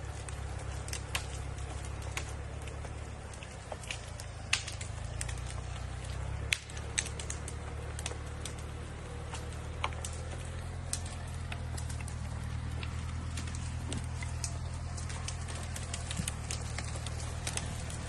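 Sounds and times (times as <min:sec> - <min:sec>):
tractor engine droning: 0:00.0 - 0:18.0
sharp clicks and cracks: 0:00.1 - 0:18.0.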